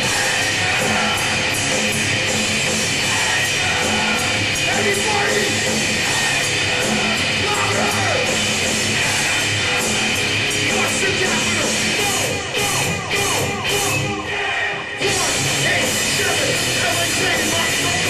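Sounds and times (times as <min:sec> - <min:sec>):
bass guitar: 0:00.0 - 0:18.0
distorted electric guitars: 0:00.0 - 0:18.0
drums: 0:00.0 - 0:18.0.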